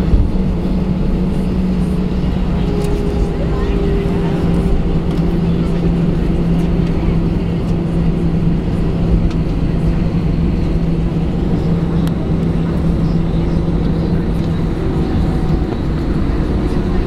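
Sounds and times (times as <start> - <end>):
aircraft cabin hum: 0.0 - 17.0
steady low tone: 0.0 - 17.0.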